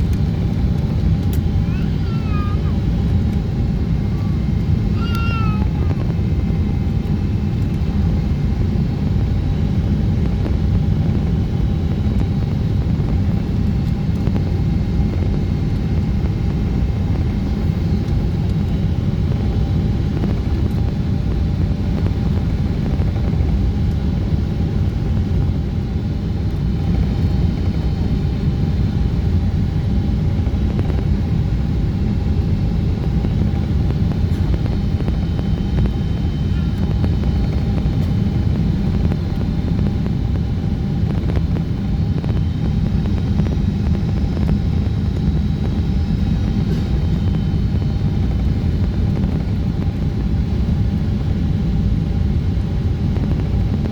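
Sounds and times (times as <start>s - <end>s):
airplane cabin airflow and engine: 0.0s - 53.9s.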